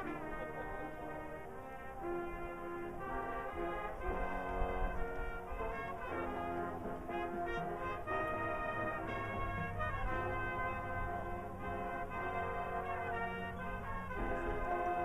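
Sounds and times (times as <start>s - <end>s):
brass chords: 0.0s - 15.0s.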